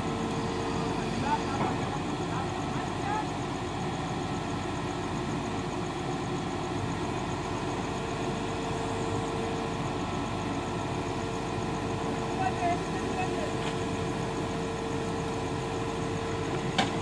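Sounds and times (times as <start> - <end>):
diesel excavator engine running: 0.0 - 17.0.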